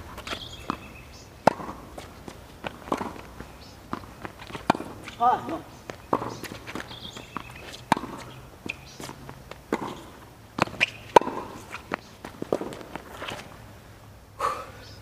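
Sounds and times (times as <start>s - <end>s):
tennis ball bouncing on hard court: 0.0s - 13.5s
tennis ball hit by racket: 0.0s - 13.5s.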